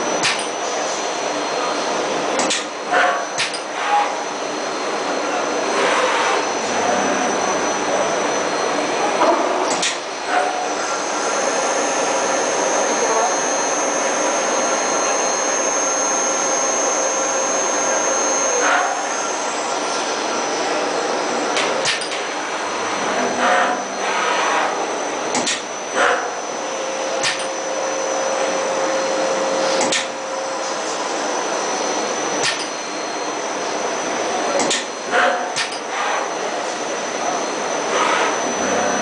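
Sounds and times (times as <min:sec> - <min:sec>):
machine whirring with high whine: 0:00.0 - 0:39.0.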